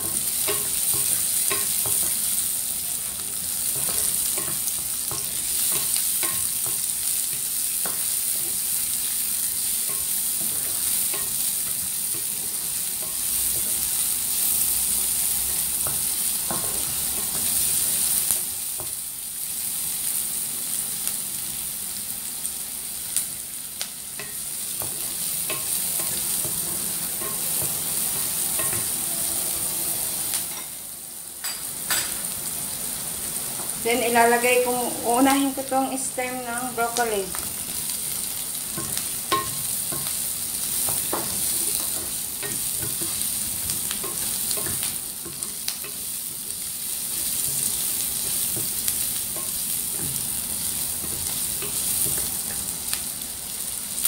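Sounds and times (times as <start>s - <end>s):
garlic and onion sizzling: 0.0s - 54.0s.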